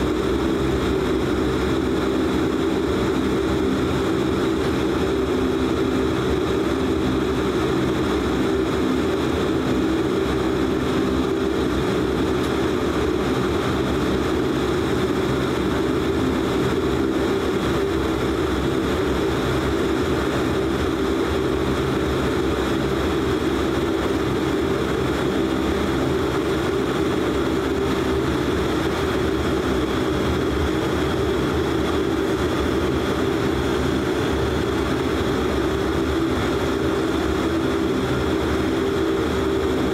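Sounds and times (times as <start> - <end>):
turboprop engines droning in cabin: 0.0 - 39.9.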